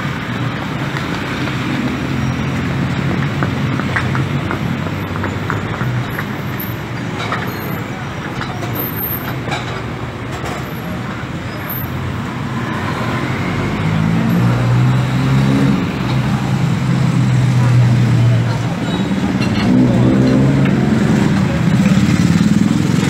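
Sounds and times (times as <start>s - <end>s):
road traffic hum: 0.0s - 23.0s
vehicle engine rumbling: 0.0s - 23.0s.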